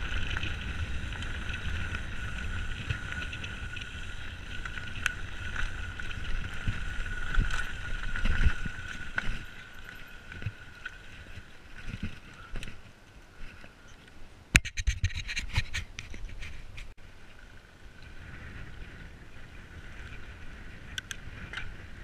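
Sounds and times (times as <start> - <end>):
bike tyres on dirt: 0.0 - 22.0
wind rumble on microphone: 0.0 - 22.0.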